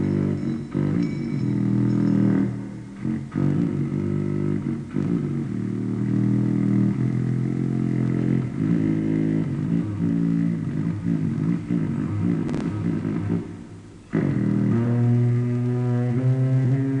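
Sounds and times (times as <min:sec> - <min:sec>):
low buzzing drone: 0:00.0 - 0:17.0.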